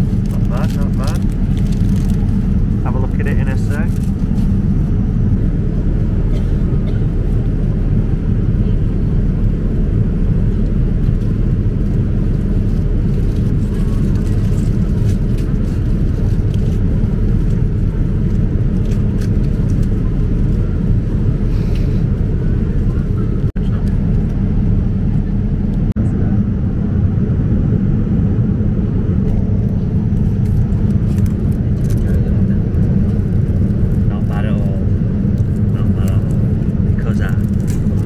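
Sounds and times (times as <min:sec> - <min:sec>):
airliner cabin drone: 0:00.0 - 0:38.0.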